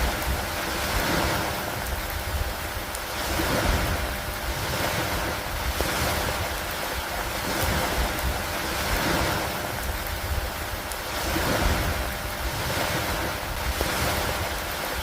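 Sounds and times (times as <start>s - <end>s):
rain and wind over lake water: 0.0s - 15.0s
wind rumble on microphone: 0.0s - 15.0s.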